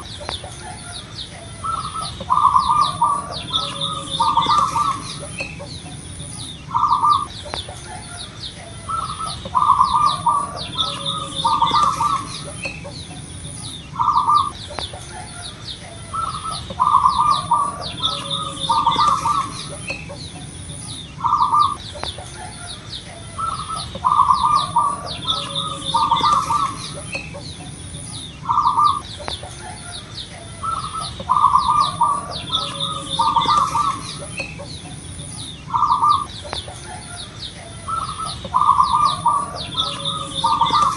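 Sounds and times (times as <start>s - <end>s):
dove cooing: 0.0s - 40.9s
high chirps: 1.6s - 8.3s, 8.9s - 15.3s, 16.1s - 40.9s.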